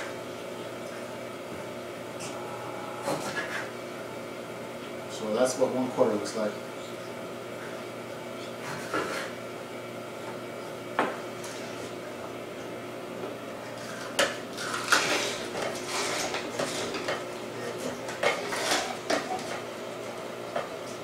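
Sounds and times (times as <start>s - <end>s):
juicer humming: 0.0s - 21.0s.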